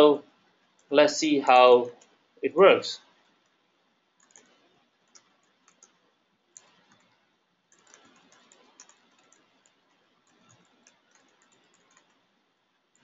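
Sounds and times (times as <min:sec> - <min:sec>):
faint keyboard typing: 0:00.4 - 0:02.2, 0:04.2 - 0:13.0.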